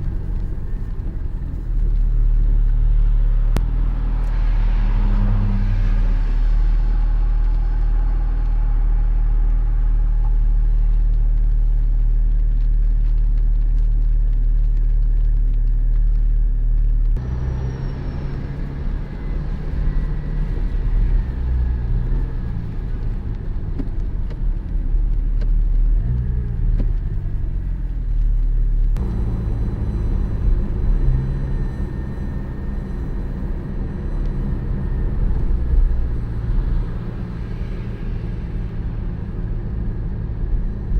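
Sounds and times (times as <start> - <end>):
car engine droning: 0.0 - 40.9
road noise: 0.0 - 40.9.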